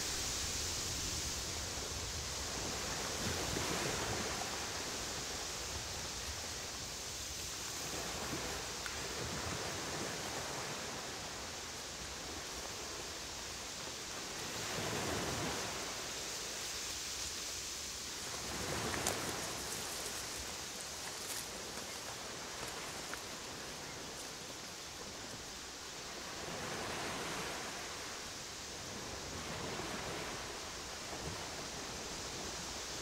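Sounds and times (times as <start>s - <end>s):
wind blowing across microphone: 0.0s - 33.0s.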